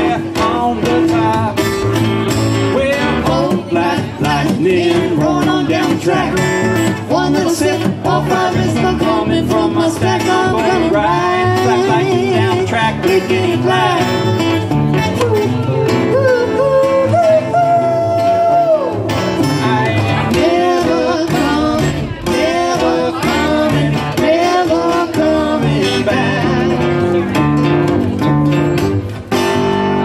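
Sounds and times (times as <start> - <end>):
wordless singing: 0.0 - 14.4, 16.1 - 27.4
plucked upright bass: 0.0 - 30.0
strummed acoustic guitar: 0.0 - 30.0.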